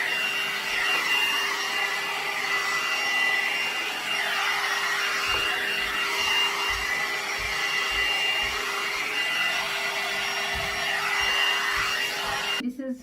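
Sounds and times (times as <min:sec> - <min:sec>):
hair dryer brush blowing air: 0:00.0 - 0:12.6.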